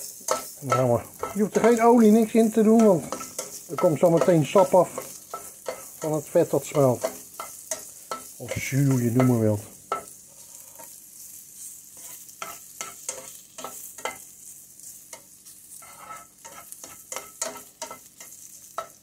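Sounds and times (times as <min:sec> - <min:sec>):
bacon sizzling in a frying pan: 0:00.0 - 0:19.0
spatula scraping and tapping: 0:00.1 - 0:11.0, 0:11.6 - 0:14.4, 0:15.1 - 0:19.0.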